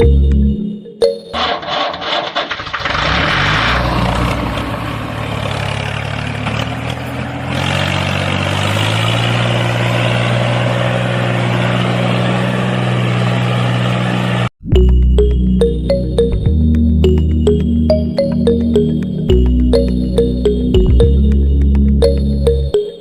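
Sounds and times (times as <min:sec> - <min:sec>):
engine humming: 0:01.3 - 0:22.8.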